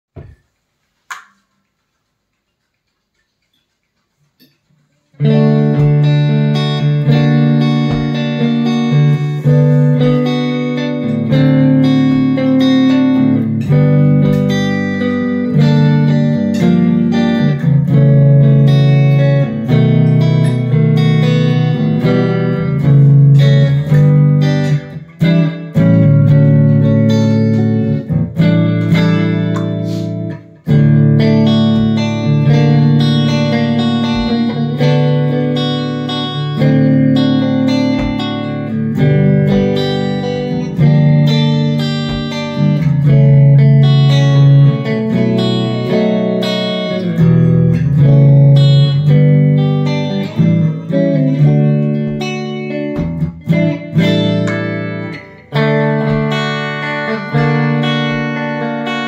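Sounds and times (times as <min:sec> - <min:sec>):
amplified electric guitar: 0:04.4 - 0:59.0.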